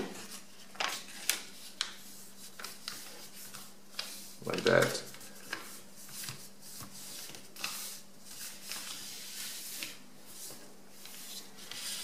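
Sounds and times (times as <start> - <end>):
paper rustling and scraping: 0.0 - 12.0.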